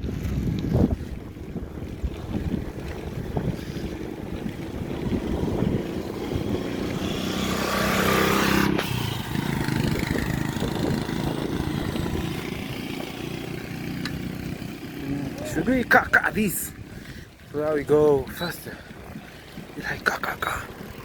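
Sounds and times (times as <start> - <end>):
engine-like hum: 0.0 - 21.0
wind rumbling on microphone: 0.0 - 21.0.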